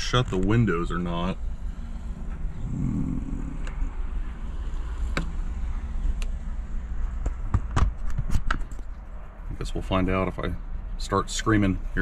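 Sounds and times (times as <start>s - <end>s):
vehicle rumble inside car cabin: 0.0s - 12.0s.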